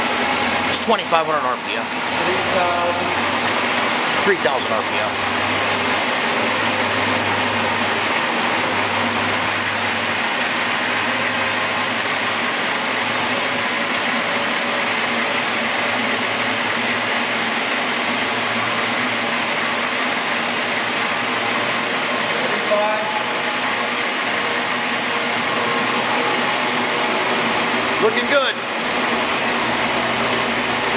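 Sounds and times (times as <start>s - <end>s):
lathe whirring: 0.0s - 30.9s.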